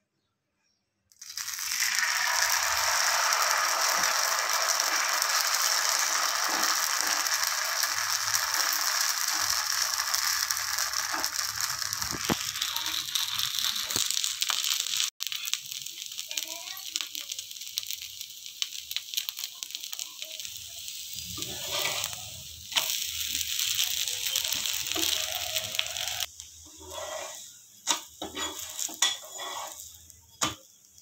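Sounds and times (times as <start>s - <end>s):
batter sizzling in hot oil: 1.1s - 31.0s.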